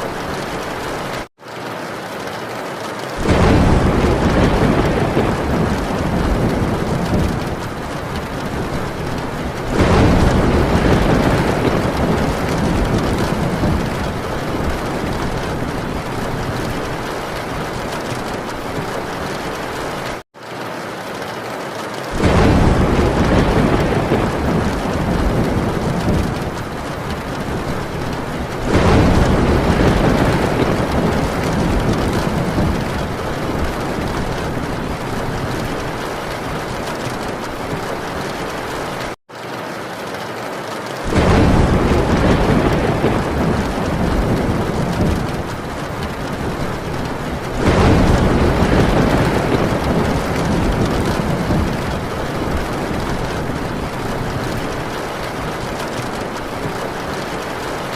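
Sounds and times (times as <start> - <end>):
heavy rain on a tin roof: 0.0 - 57.9
rolling thunder: 3.2 - 20.2, 22.2 - 39.2, 41.1 - 57.9.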